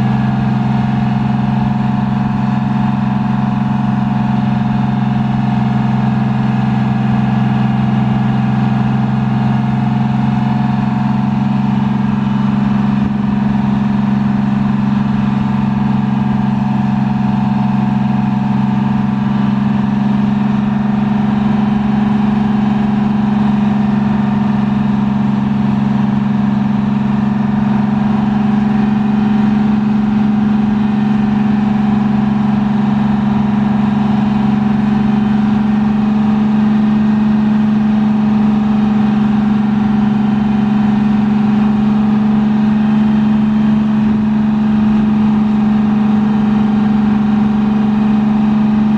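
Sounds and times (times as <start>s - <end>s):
diesel bus engine running: 0.0s - 48.9s.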